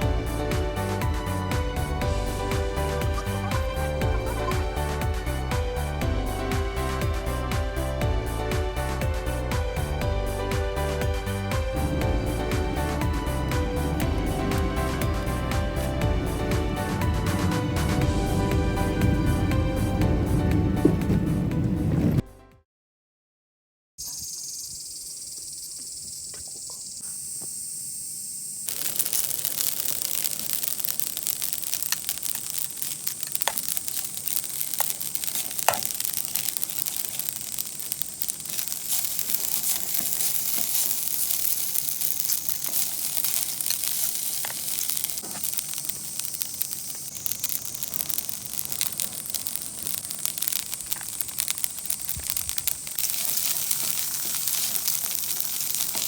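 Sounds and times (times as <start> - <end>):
sizzling crackle: 0.0 - 21.4, 24.1 - 56.0.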